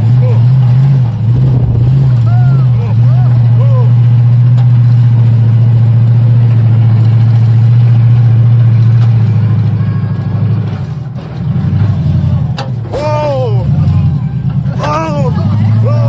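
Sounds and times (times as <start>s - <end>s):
big engine deep drone: 0.0s - 16.0s.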